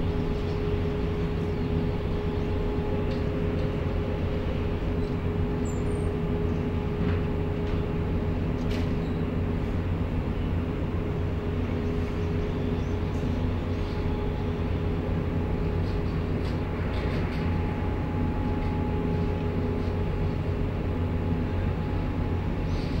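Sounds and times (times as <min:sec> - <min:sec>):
constant hum: 0:00.0 - 0:23.0
low mechanical rumble: 0:00.0 - 0:23.0.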